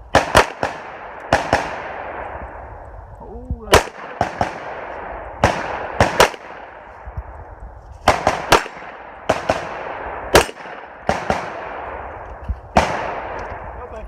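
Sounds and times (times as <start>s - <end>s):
rifle shots with echo: 0.0s - 3.0s, 3.7s - 7.4s, 8.0s - 14.0s.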